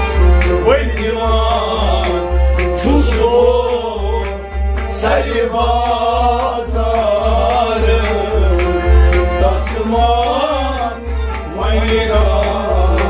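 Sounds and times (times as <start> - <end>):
harmonium: 0.0 - 13.0
pot drum beat: 0.0 - 13.0
man singing: 0.2 - 13.0.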